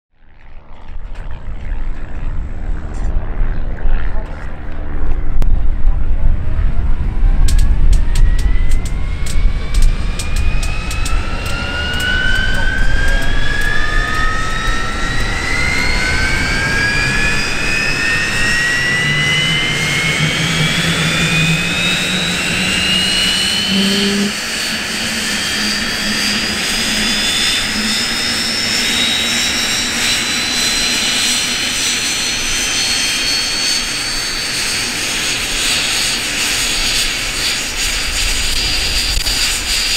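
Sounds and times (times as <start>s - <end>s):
jet engine whine spooling up: 0.2s - 39.9s.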